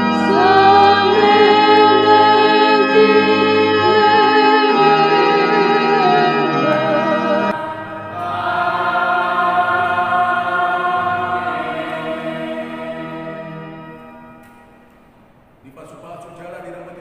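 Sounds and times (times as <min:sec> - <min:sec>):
man and woman singing a hymn: 0:00.0 - 0:14.5.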